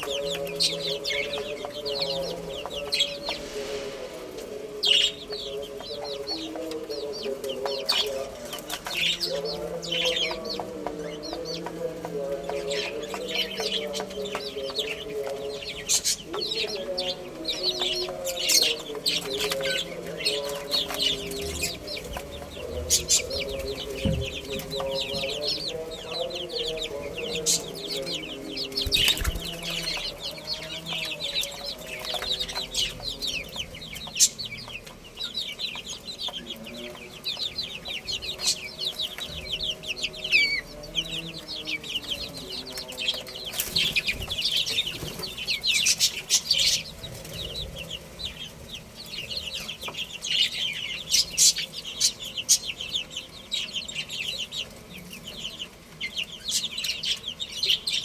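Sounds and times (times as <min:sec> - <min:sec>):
chickens clucking: 0:00.0 - 0:58.0
chicks peeping: 0:00.0 - 0:58.0.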